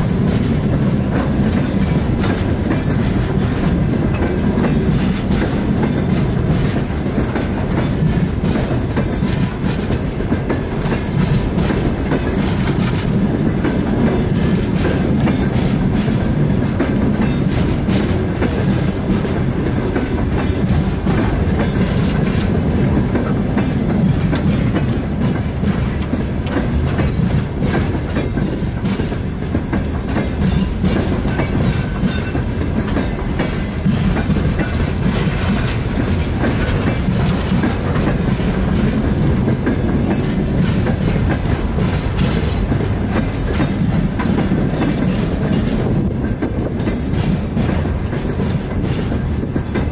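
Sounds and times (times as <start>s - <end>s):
diesel locomotive rumbling: 0.0s - 49.9s.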